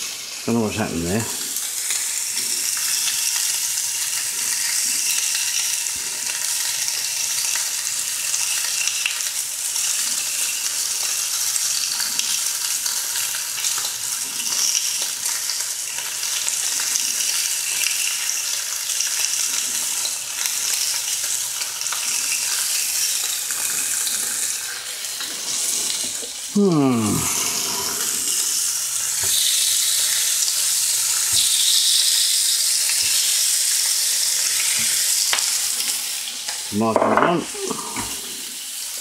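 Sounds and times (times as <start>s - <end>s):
food sizzling in frying pan: 0.0s - 39.0s.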